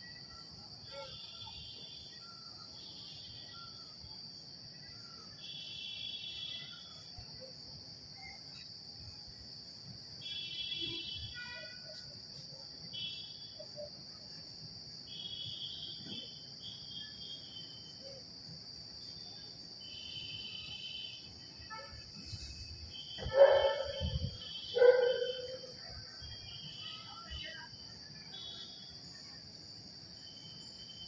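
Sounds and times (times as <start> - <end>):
insects droning high-pitched: 0.0 - 31.0.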